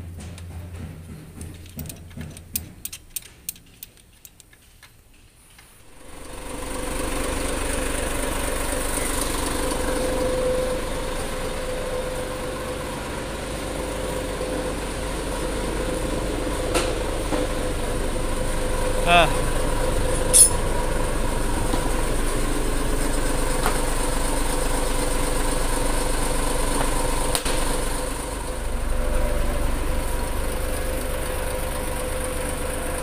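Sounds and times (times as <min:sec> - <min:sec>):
truck engine running: 0:05.8 - 0:33.0.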